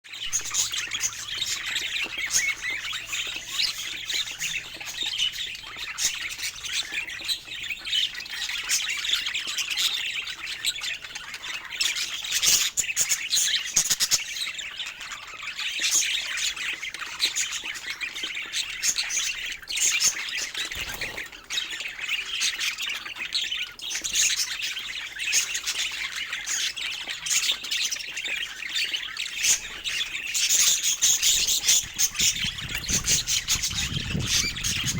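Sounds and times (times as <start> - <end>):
budgerigars chattering: 0.2 - 34.9.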